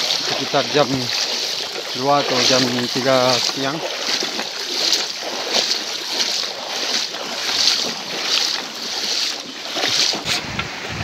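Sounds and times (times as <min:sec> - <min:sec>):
river water over stones: 0:00.0 - 0:11.0.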